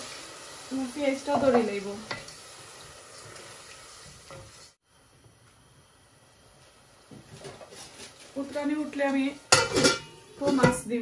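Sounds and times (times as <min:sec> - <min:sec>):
spice paste sizzling: 0:00.0 - 0:11.0.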